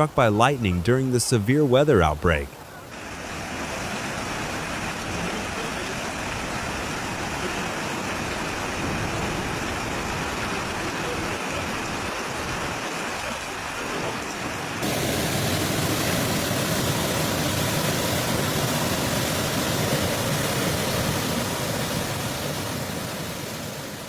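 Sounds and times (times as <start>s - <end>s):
storm water rushing: 2.9s - 24.0s.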